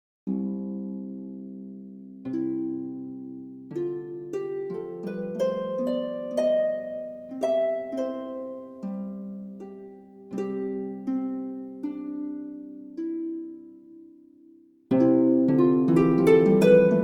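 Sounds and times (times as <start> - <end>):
soft plucked instrumental music: 0.3 - 17.0.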